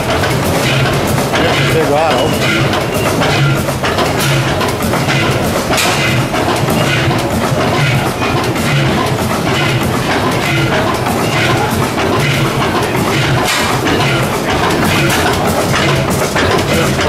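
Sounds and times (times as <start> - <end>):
oil engine heavy beat: 0.0 - 17.0
steady mechanical clatter: 0.0 - 17.0.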